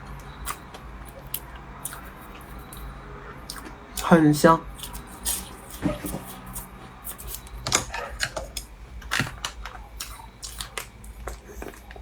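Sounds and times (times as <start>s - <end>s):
chewing soft pastry: 0.0s - 12.0s.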